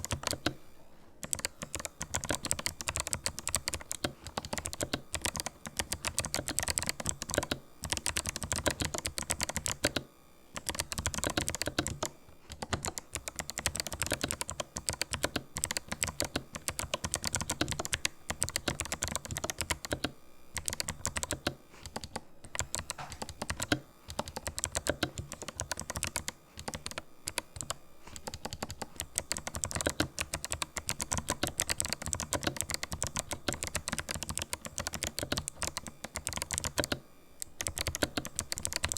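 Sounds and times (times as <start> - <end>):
mechanical keyboard typing: 0.0 - 0.6, 1.2 - 38.9.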